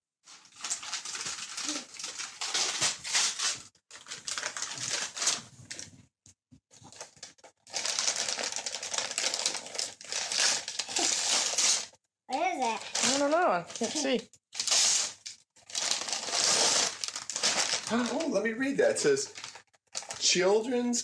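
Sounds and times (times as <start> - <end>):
wrapping paper tearing and crinkling: 0.3 - 5.9, 6.8 - 20.4.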